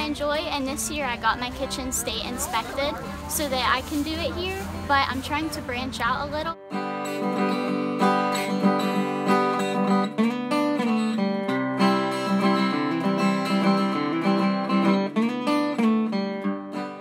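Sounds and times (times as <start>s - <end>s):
acoustic guitar tune: 0.0s - 17.0s.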